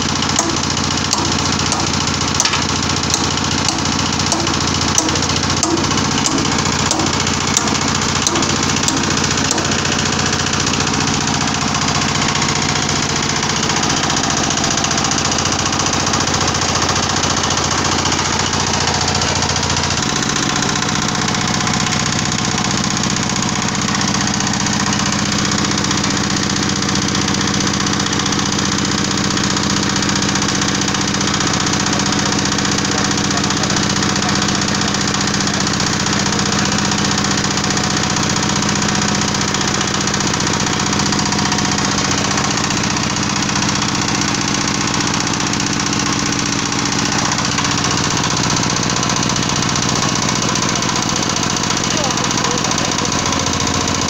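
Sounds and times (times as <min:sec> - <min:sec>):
screw press humming and rattling: 0:00.0 - 0:54.0.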